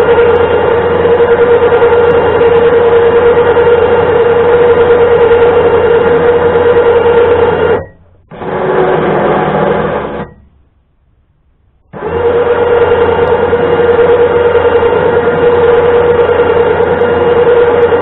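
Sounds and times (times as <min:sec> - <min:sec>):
electric winch motor whining: 0:00.0 - 0:10.6, 0:11.8 - 0:18.0.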